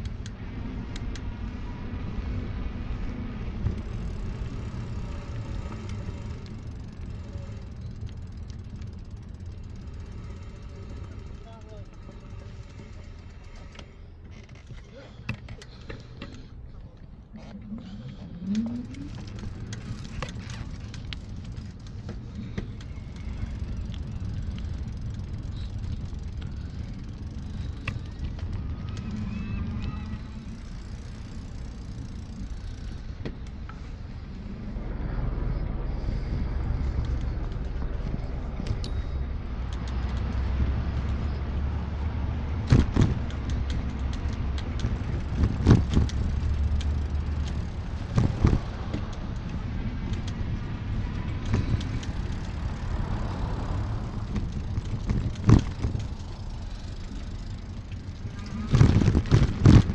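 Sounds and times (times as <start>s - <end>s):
road and traffic rumble: 0.0s - 59.9s
faint clicks: 4.6s - 33.9s, 36.8s - 41.8s, 42.5s - 59.9s.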